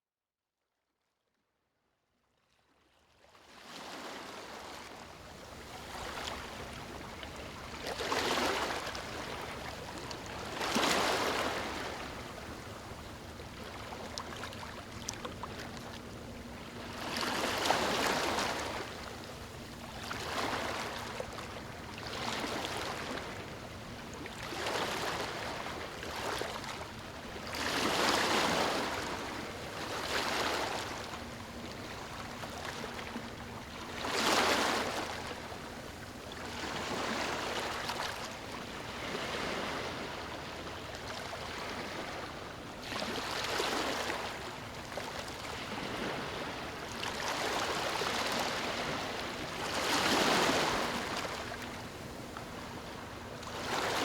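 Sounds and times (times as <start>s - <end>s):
small waves lapping on beach: 3.2s - 54.0s.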